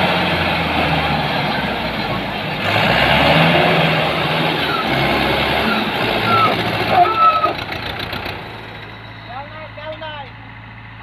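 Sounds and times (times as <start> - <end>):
tractor diesel engine droning: 0.0 - 11.0.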